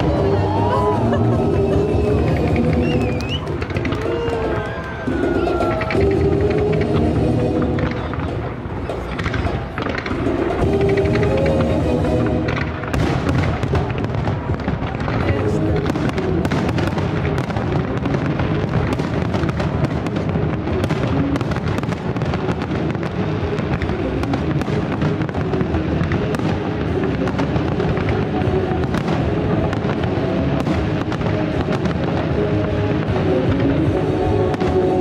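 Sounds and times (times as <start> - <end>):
fireworks bangs and crackles: 0.0 - 35.0
loud music: 0.0 - 35.0.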